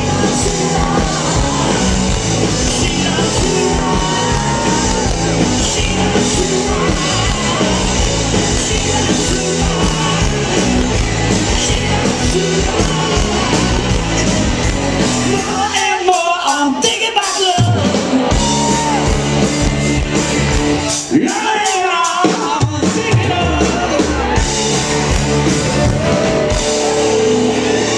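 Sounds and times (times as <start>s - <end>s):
man singing lead vocal: 0.0s - 19.0s, 21.0s - 24.6s
live rock band playing: 0.0s - 27.9s.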